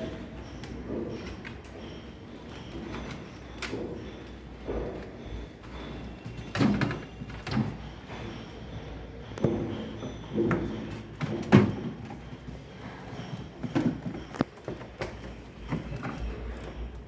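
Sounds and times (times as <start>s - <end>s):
knocks of hard objects: 0.0s - 16.9s.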